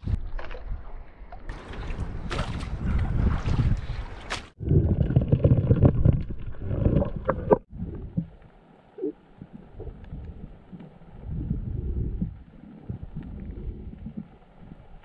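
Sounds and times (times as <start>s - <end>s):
muffled water sloshing: 0.0s - 15.0s.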